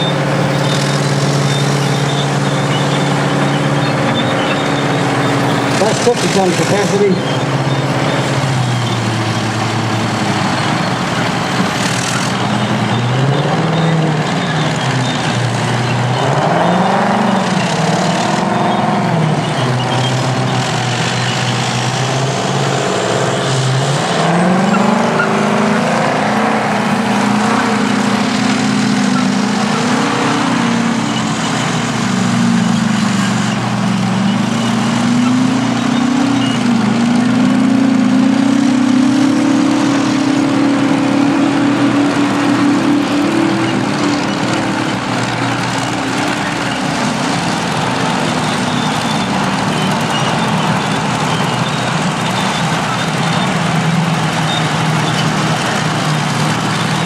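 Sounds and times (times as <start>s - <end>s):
heavy diesel engines revving: 0.0s - 57.0s.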